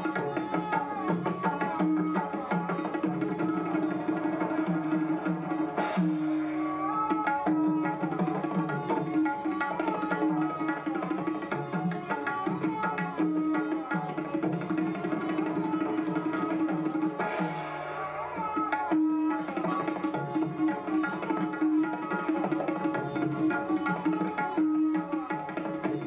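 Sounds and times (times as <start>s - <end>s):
tabla playing: 0.0s - 26.0s.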